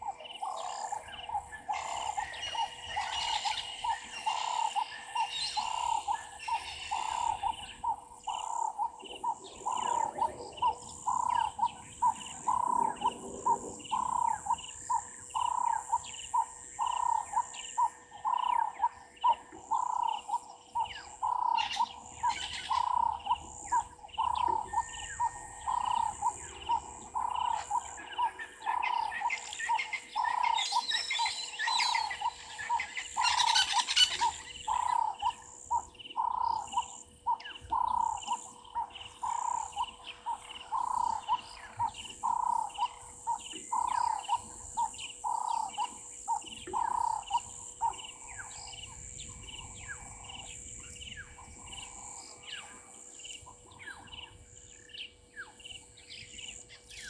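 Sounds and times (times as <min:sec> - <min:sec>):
birds chattering: 0:00.0 - 0:57.0
high insect drone: 0:00.0 - 0:57.0.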